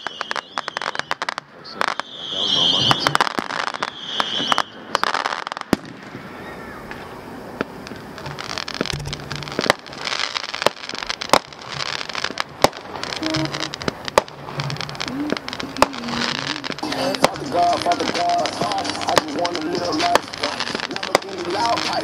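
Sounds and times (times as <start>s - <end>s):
firework crackling: 0.0s - 22.0s
firework pops and bangs: 0.0s - 22.0s.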